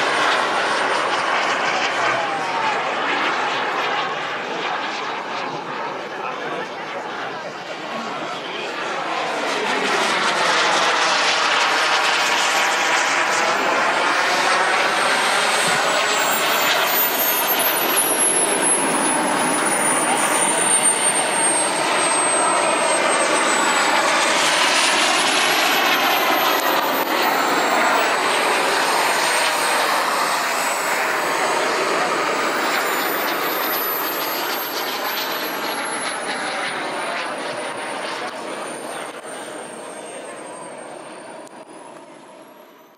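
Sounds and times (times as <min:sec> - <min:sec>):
jet turbine rushing with whine: 0:00.0 - 0:42.8.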